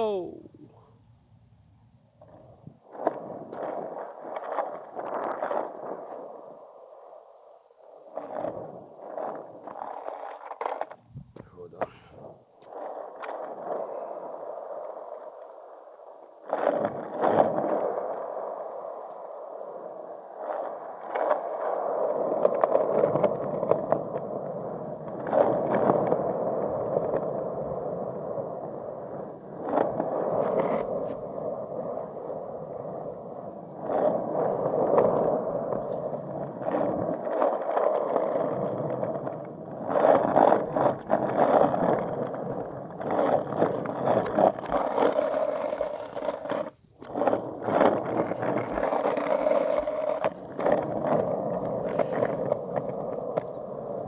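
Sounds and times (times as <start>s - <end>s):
skateboard wheels rolling on concrete: 0.0s - 54.0s.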